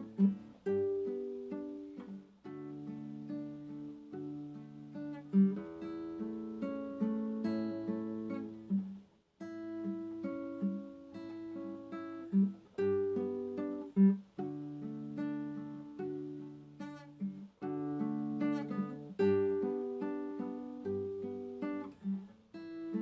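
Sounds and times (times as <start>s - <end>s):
acoustic guitar plucking: 0.0s - 23.0s.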